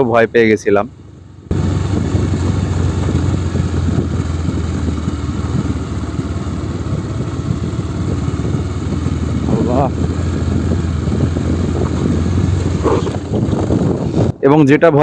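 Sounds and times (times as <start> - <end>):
motorcycle engine running at low revs: 0.0 - 14.4.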